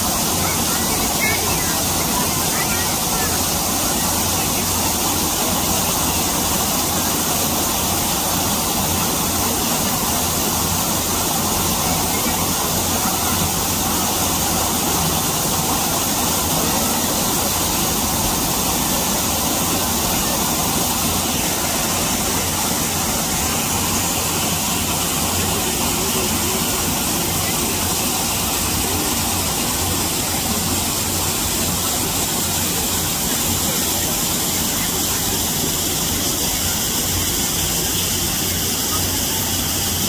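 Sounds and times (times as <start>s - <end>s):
steady rushing noise: 0.0s - 40.0s.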